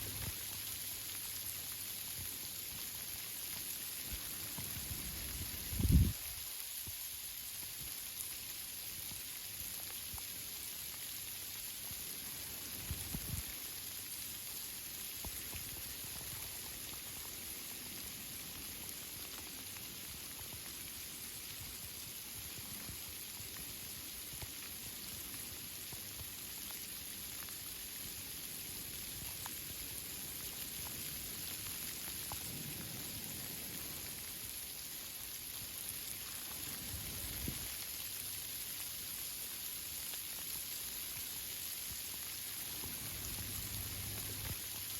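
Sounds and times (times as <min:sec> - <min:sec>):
rain falling on foliage: 0:00.0 - 0:44.9.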